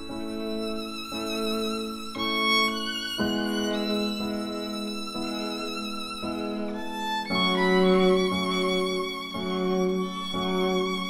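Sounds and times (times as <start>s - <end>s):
slow melody of long held notes: 0.0s - 11.0s.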